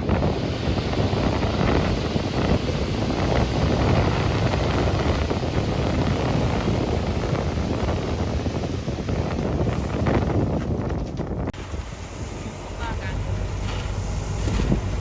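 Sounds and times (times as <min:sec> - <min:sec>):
heavy diesel machinery rumbling: 0:00.0 - 0:15.0
wind buffeting microphone: 0:00.0 - 0:15.0.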